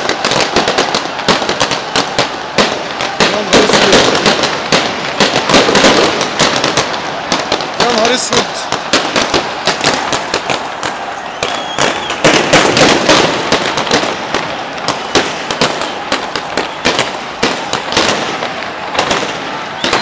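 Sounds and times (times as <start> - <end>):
crowd noise: 0.0 - 20.0
gunshots: 0.0 - 20.0.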